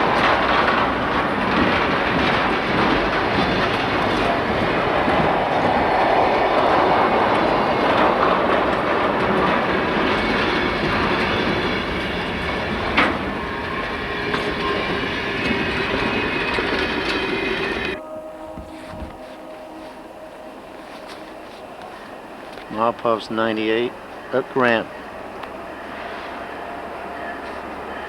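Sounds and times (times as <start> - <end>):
train wheels clattering: 0.0 - 28.0.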